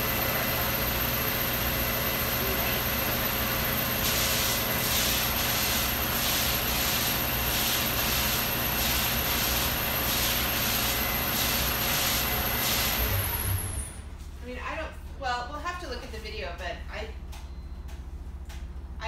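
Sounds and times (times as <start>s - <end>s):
steady machine hum: 0.0s - 16.1s.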